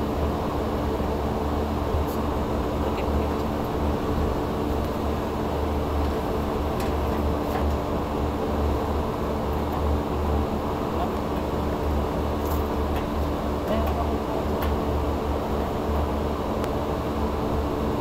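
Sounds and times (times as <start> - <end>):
machine drone with low hum: 0.0 - 18.0.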